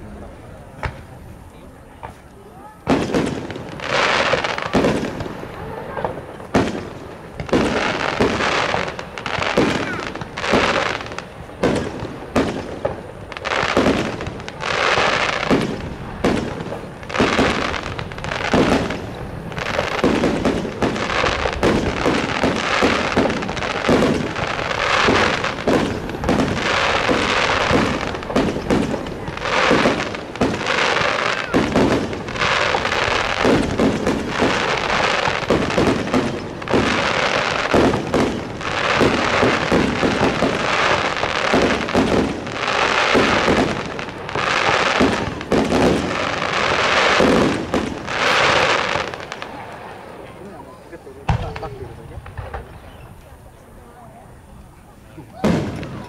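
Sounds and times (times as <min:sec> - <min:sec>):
firework crackle: 0:00.0 - 0:56.0.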